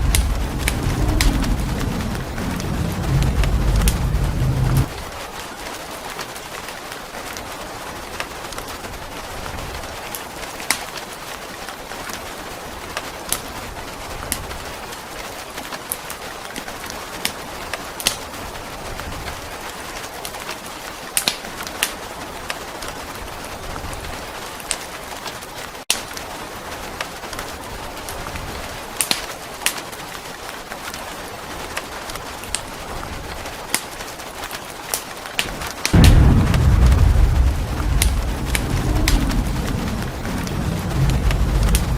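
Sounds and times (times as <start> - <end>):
sharp crackles and pops: 0.0 - 41.9
steady rain hiss: 0.0 - 41.9.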